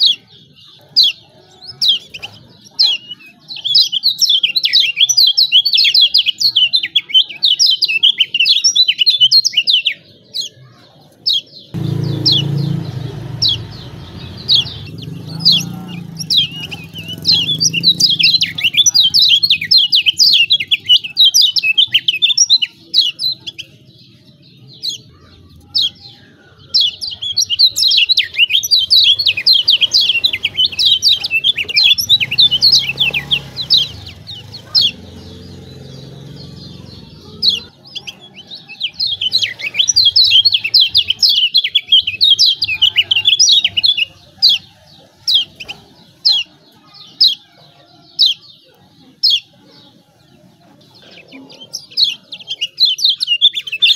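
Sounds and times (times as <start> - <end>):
bird chirping rapidly: 0.0 - 10.6, 11.2 - 49.6, 51.0 - 53.9.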